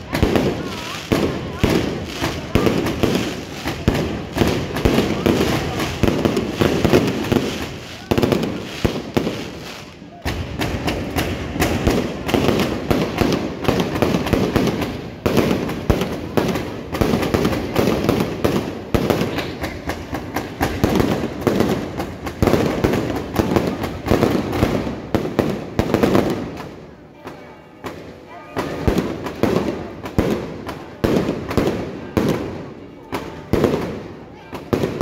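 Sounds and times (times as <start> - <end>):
fireworks crackling bangs: 0.0 - 35.0.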